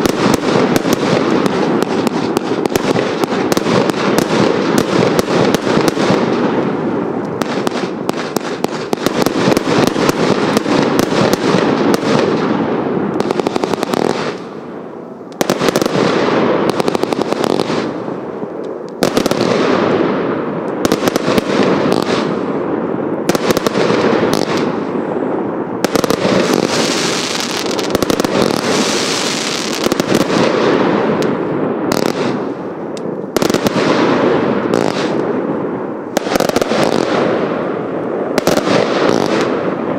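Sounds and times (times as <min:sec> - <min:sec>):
firework barrage: 0:00.0 - 0:39.9.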